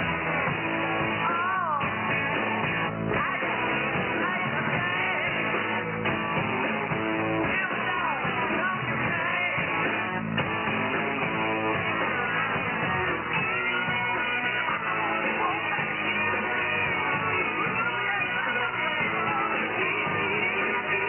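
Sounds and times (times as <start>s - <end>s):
rock song over shortwave radio: 0.0s - 21.0s.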